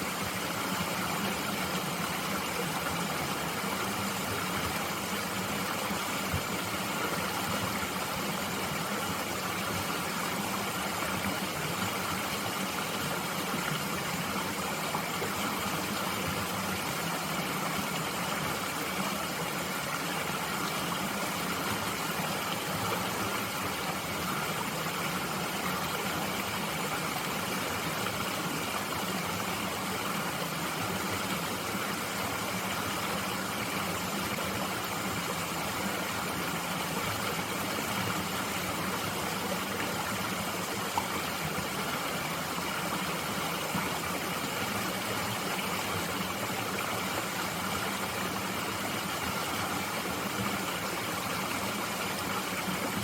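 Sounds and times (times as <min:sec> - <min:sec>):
mountain stream flowing: 0:00.0 - 0:53.0.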